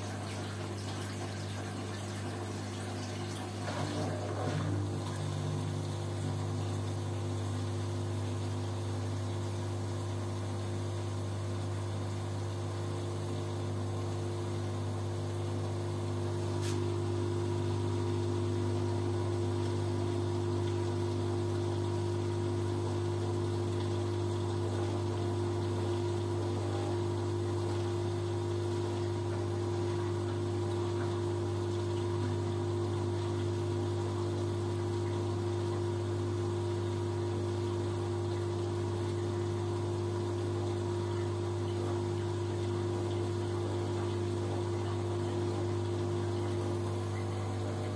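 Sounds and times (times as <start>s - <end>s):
washing machine humming: 0.0s - 47.9s.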